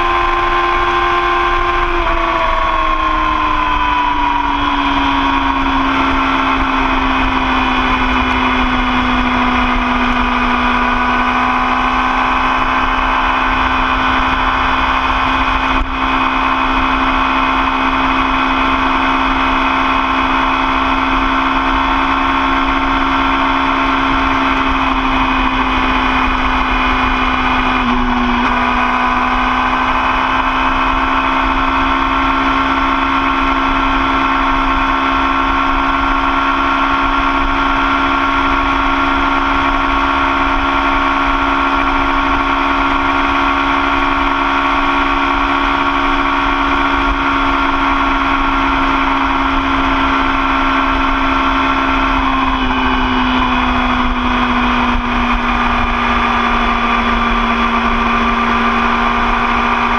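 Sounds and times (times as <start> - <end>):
low wind rumble: 0.0 - 59.9
motorcycle engine cruising: 0.0 - 59.9.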